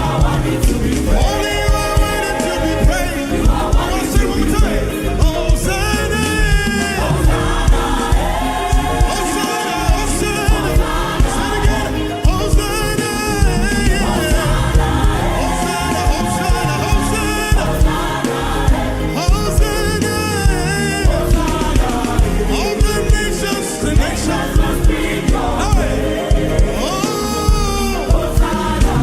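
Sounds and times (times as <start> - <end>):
band with steady drumbeat: 0.0 - 29.0
choir singing: 0.0 - 29.0.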